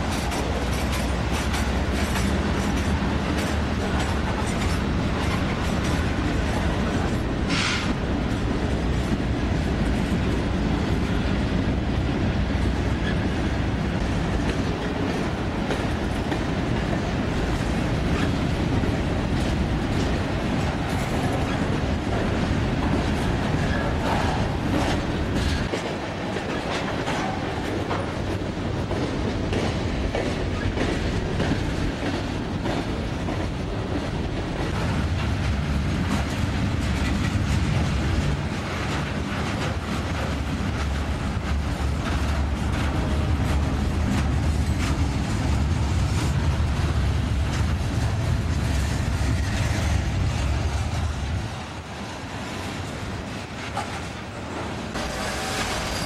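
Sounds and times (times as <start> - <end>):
freight train rumble: 0.0 - 56.0
wheels clicking over rail joints: 0.0 - 56.0.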